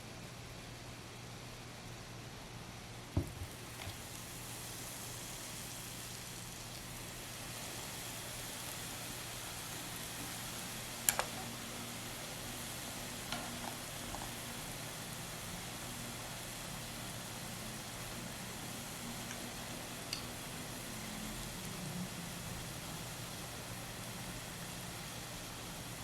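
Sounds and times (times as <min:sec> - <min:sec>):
hot oil sizzling: 0:02.9 - 0:26.0.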